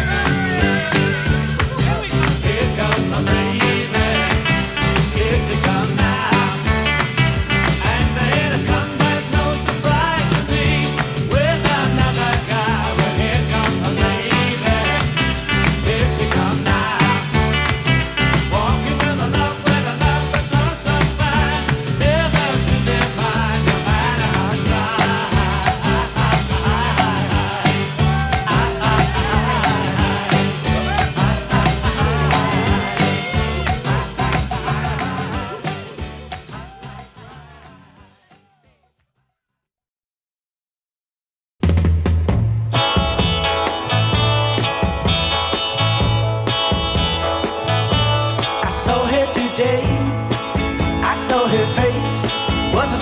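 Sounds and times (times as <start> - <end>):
up-tempo pop-rock music: 0.0 - 38.3, 42.2 - 53.0.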